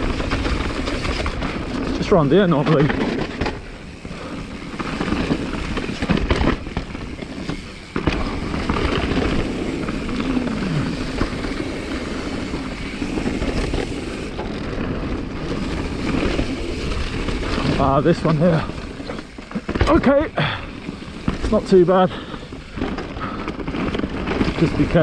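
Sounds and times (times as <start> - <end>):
bike knocking over bumps: 0.0 - 25.0
bike tyre and riding noise: 0.0 - 25.0.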